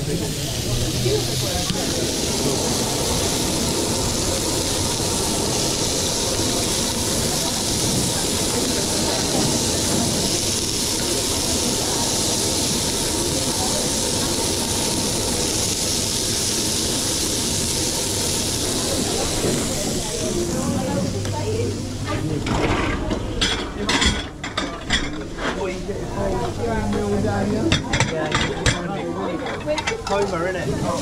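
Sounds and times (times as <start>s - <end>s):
restaurant kitchen noise: 0.0s - 31.0s.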